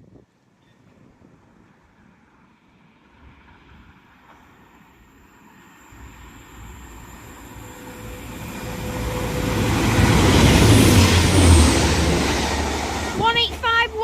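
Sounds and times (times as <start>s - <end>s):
diesel train passing rumble: 1.4s - 14.0s.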